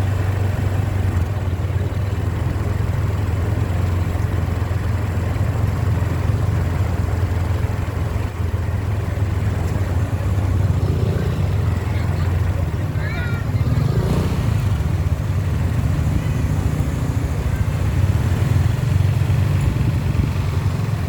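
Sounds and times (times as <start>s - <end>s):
road noise: 0.0s - 21.0s
vehicle engine running: 0.0s - 21.0s.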